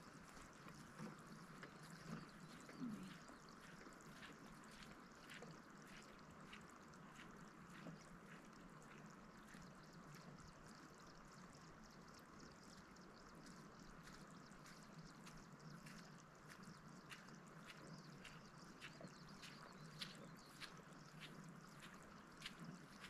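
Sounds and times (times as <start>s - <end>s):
faint ticks: 0.0s - 23.0s.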